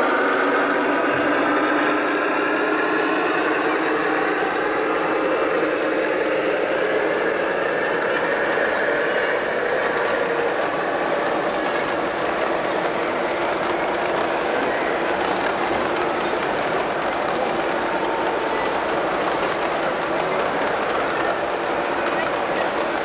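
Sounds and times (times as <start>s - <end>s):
model train humming on track: 0.0s - 23.0s.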